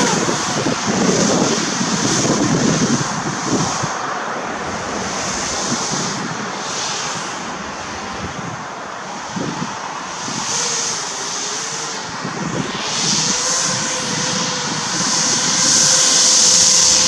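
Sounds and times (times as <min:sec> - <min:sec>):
model hovercraft fans hissing: 0:00.0 - 0:17.0
wind buffeting microphone: 0:00.0 - 0:17.0.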